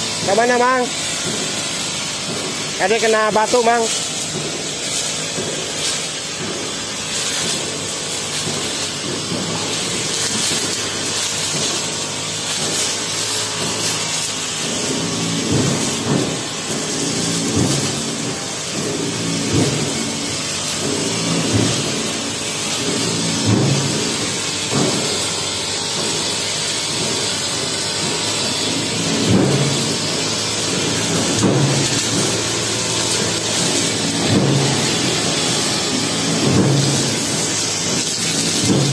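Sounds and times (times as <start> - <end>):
blade cutting tall grass: 0.0 - 38.9
brush cutter engine running: 0.0 - 38.9.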